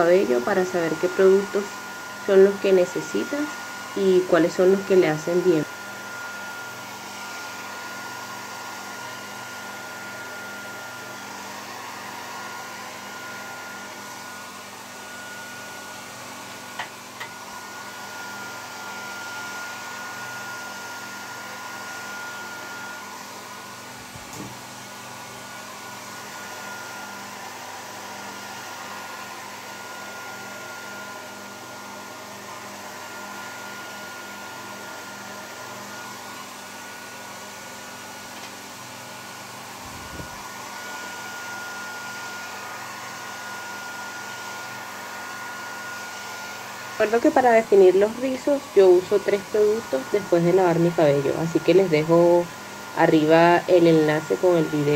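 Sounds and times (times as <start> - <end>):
hair dryer blowing: 0.0 - 54.9.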